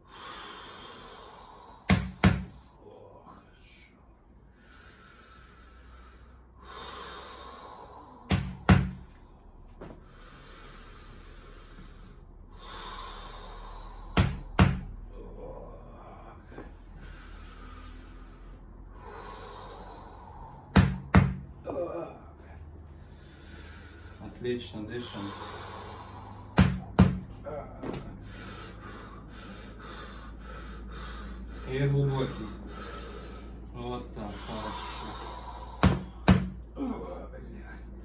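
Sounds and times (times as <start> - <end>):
deep breathing: 0.0 - 38.0.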